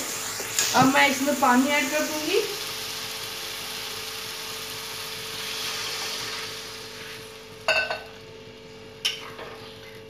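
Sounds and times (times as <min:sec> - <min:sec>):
sauce sizzling in a pan: 0:00.0 - 0:09.0.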